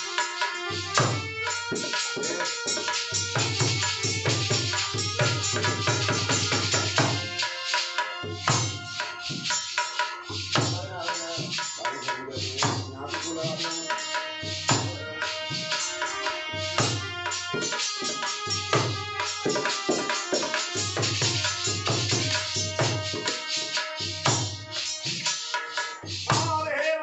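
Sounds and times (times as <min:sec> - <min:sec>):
harmonium melody: 0:00.0 - 0:11.2, 0:13.1 - 0:26.2
hand drum rhythm: 0:00.0 - 0:27.0.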